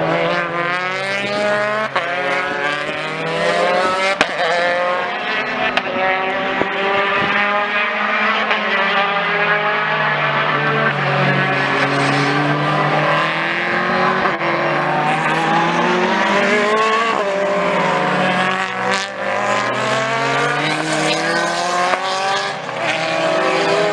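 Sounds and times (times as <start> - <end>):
race car engines revving: 0.0 - 23.9.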